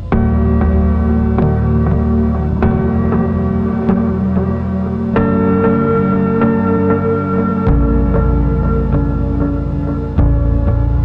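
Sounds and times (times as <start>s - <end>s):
deep bass note: 0.0s - 11.0s
slow instrumental music: 0.0s - 11.0s.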